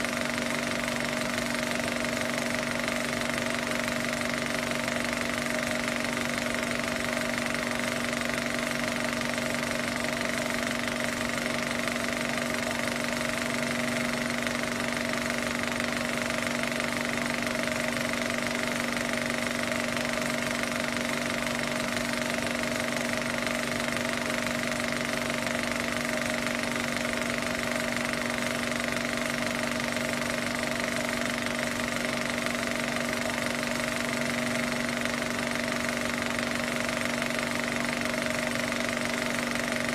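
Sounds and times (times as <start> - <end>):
motor hum: 0.0 - 39.9
projector mechanical clatter: 0.0 - 39.9.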